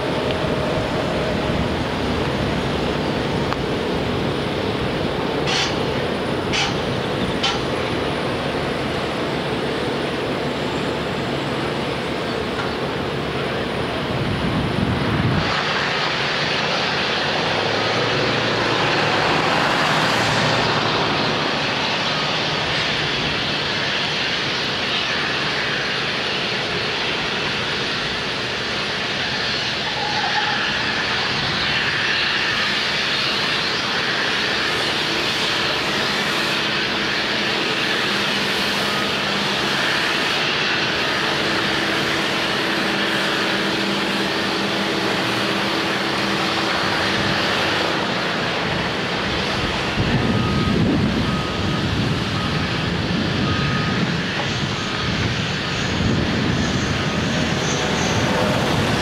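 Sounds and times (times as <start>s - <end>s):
heavy machinery drone: 0.0s - 59.0s.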